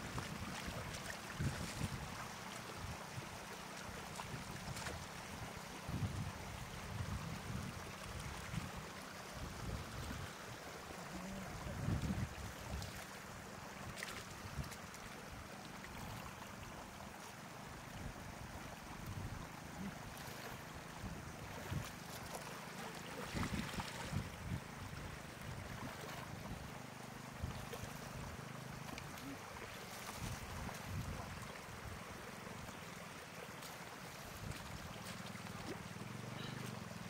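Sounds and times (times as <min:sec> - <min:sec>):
outdoor water noise: 0:00.0 - 0:37.0.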